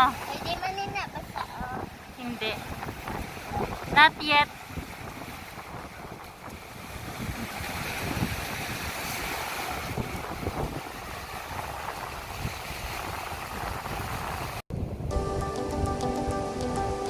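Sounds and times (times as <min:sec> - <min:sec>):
wind buffeting microphone: 0:00.0 - 0:16.5
ocean surf: 0:00.0 - 0:17.0.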